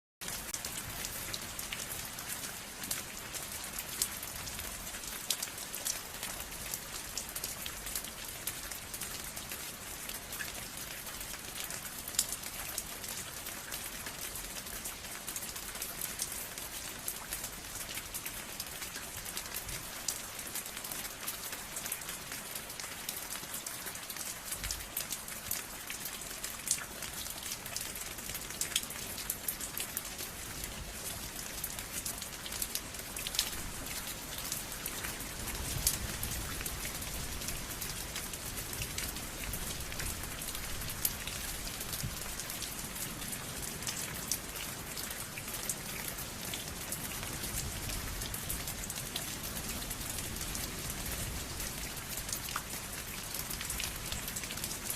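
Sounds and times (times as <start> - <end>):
rain falling on a surface: 0.2 - 54.9.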